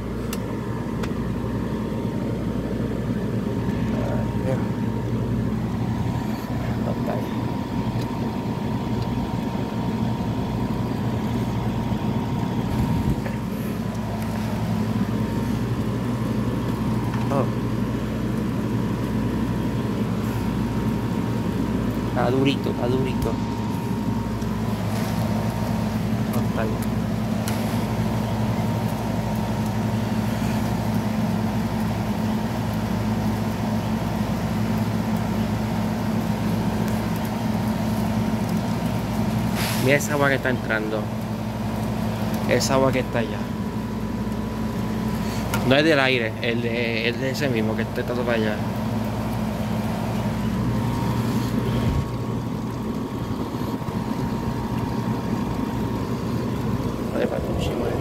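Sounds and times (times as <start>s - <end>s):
air conditioner humming: 0.0s - 58.0s
thin constant whine: 0.0s - 58.0s.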